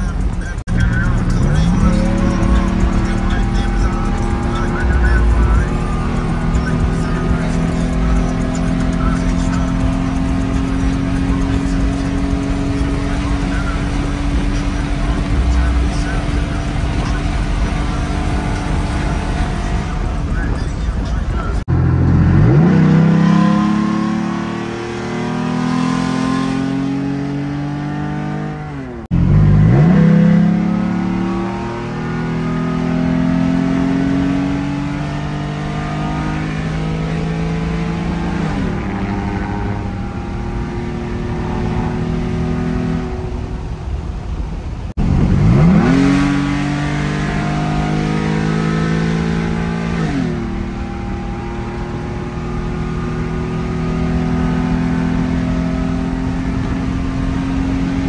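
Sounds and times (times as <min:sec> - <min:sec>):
pickup engine accelerating: 0:00.0 - 0:58.0.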